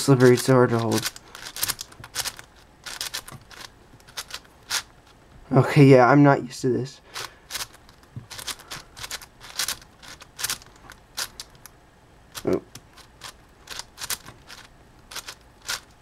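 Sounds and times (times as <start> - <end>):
plastic puzzle cube clicking: 0.2 - 4.9, 7.2 - 11.7, 12.3 - 16.0.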